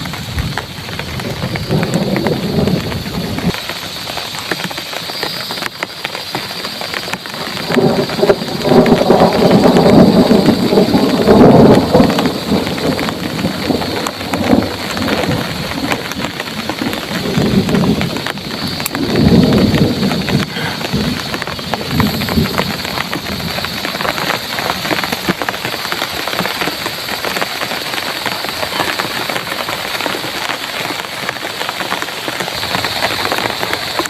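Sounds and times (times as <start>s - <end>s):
heavy rain pouring: 0.0s - 34.0s
thunder rumbling: 0.0s - 34.0s.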